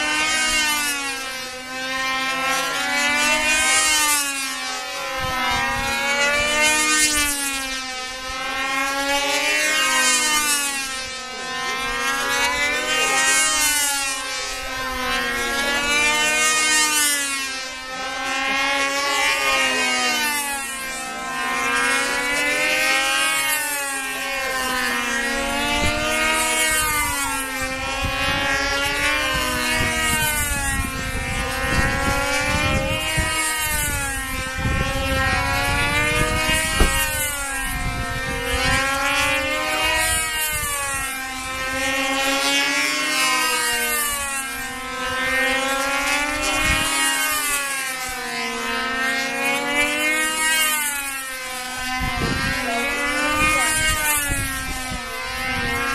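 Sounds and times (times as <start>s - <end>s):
model airplane engine buzzing: 0.0s - 55.9s.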